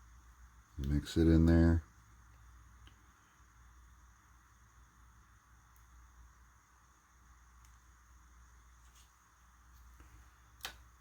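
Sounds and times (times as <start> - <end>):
faint hiss: 0.0 - 11.0
steady low hum: 0.0 - 11.0.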